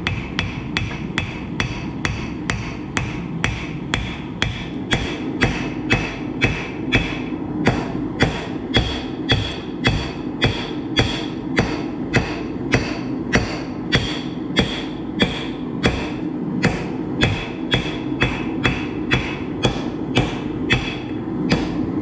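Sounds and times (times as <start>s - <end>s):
hammer striking steel on anvil: 0.0s - 21.9s.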